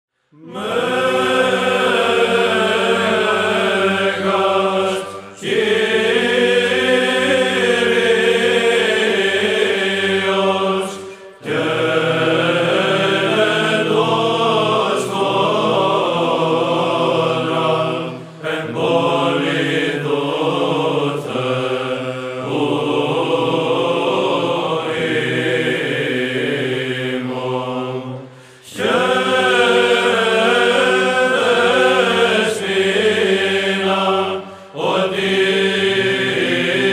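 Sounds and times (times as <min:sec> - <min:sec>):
choir chanting: 0:00.3 - 0:36.9.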